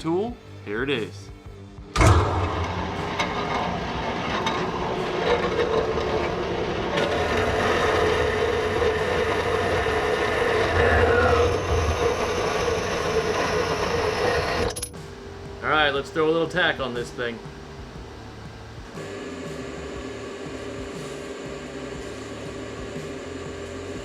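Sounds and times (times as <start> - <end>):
bandsaw motor hum: 1.3 - 24.0.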